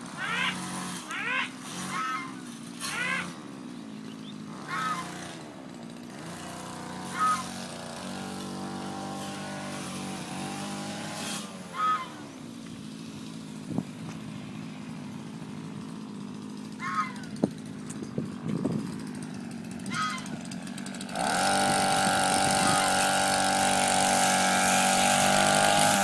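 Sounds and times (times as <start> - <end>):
brush cutter engine running: 0.0 - 26.0.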